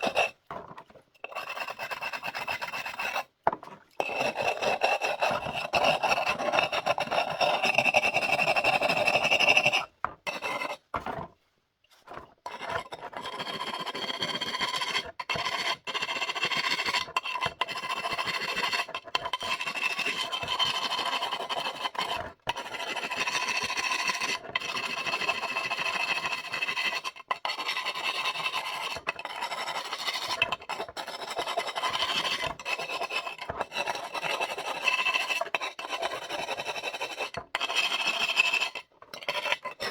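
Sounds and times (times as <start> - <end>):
abrasive scraping ceramic pot: 0.0 - 10.9, 12.1 - 39.9.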